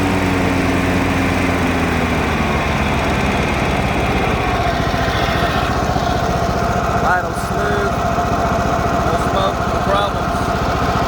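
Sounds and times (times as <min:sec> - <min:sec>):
mower engine throttling down to idle: 0:00.0 - 0:11.0.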